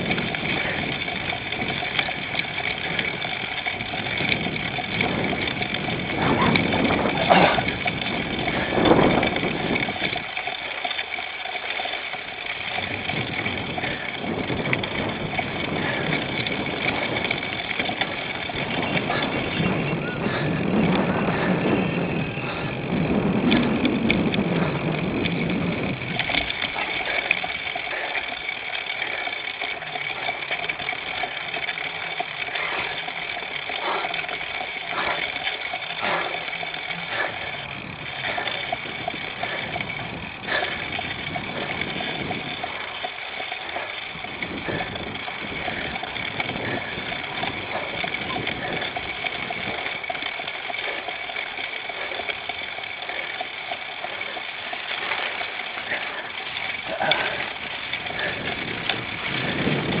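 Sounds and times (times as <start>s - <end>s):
bike knocks and rattles: 0.0s - 60.0s
wind and tyre noise: 0.0s - 60.0s.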